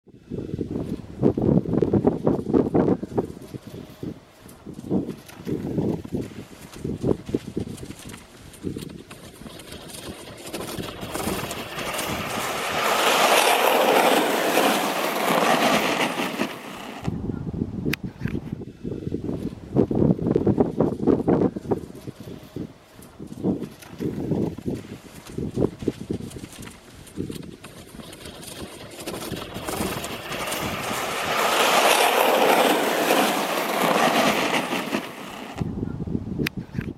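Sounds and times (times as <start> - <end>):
sled scraping over snow: 0.4 - 17.2, 19.2 - 35.7.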